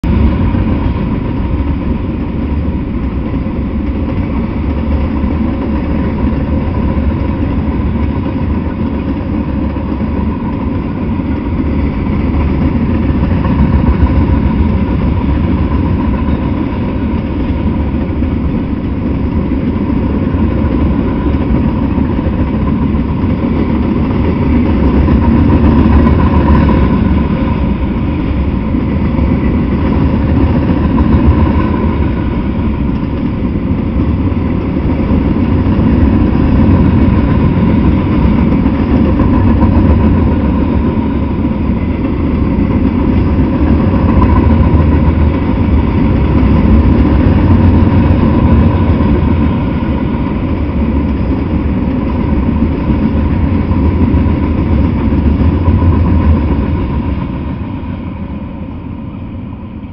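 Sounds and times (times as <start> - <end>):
freight train wheels rumbling on rails: 0.0 - 59.9.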